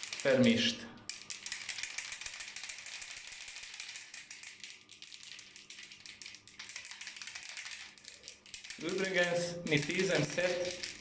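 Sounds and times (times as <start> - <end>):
aerosol can mixing ball rattling: 0.0 - 11.0.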